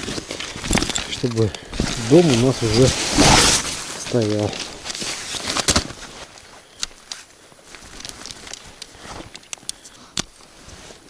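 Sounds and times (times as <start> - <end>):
light rustling of tent: 0.0 - 11.0.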